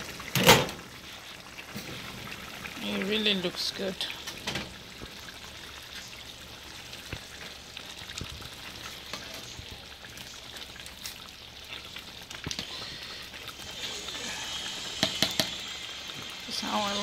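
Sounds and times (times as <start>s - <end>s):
soup bubbling and sizzling: 0.0s - 17.0s.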